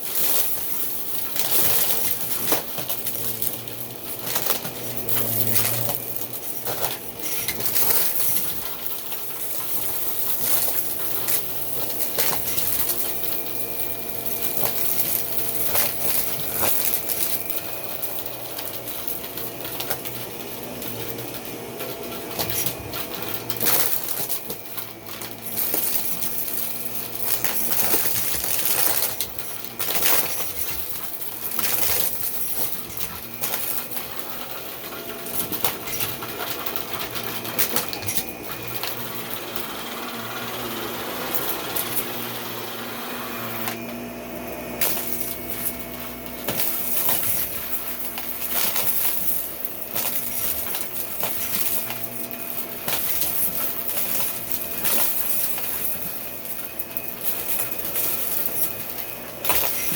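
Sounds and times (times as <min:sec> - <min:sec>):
small pieces rattling in vacuum: 0:00.0 - 0:59.9
vacuum cleaner running: 0:00.0 - 0:59.9.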